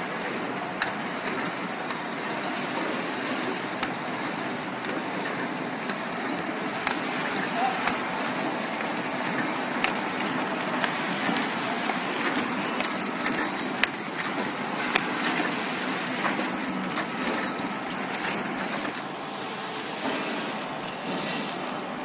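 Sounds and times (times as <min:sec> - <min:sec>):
packaging machine hiss and clatter: 0:00.0 - 0:22.0.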